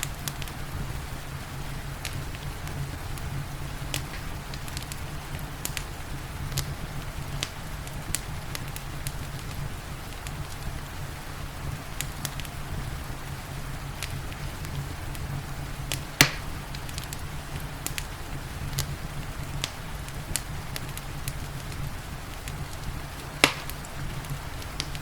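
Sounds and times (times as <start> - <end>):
rain hissing: 0.0 - 25.0
wood fire crackling and popping: 0.0 - 25.0.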